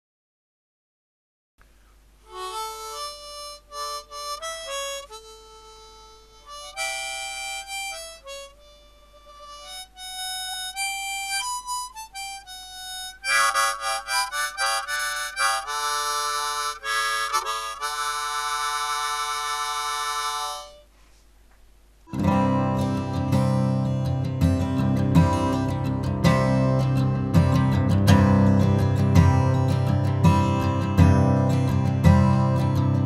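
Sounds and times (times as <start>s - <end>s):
harmonica tune: 2.2s - 20.9s, 22.1s - 33.0s.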